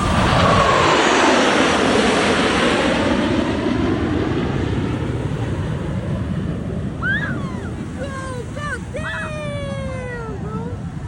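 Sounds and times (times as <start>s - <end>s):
jet noise passing overhead: 0.0s - 11.0s.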